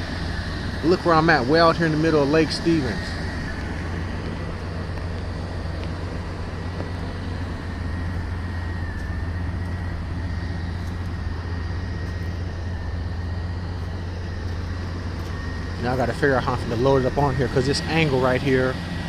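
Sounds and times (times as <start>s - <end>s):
faint high whine: 0.0s - 19.0s
truck engine rumbling: 0.0s - 19.0s.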